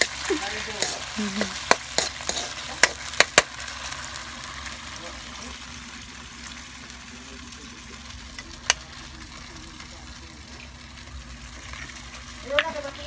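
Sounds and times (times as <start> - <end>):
fish sizzling in a wok: 0.0 - 13.0.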